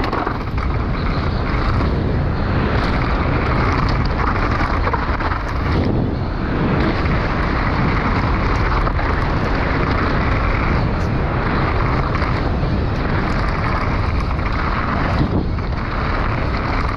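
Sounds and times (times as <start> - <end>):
drone propellers whirring: 0.0 - 16.9
wind rushing over microphone: 0.0 - 16.9.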